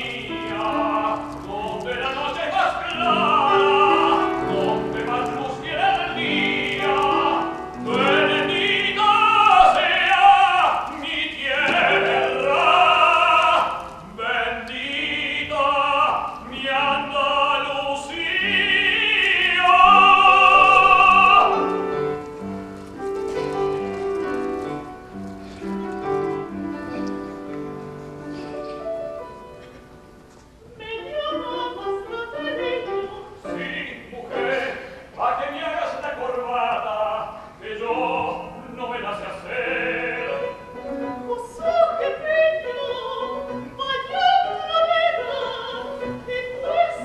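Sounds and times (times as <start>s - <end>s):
operatic singing with vibrato: 0.0s - 23.8s, 30.6s - 47.0s
piano accompaniment: 0.0s - 47.0s.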